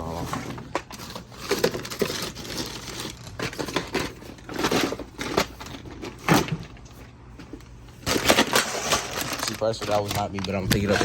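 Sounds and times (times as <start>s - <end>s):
objects being handled: 0.0s - 11.0s.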